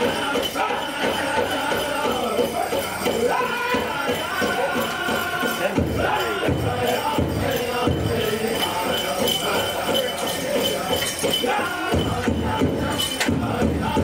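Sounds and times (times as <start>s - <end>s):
big drum beating: 0.0s - 14.0s
group singing in chorus: 0.0s - 14.0s
jingling bells: 0.0s - 14.0s.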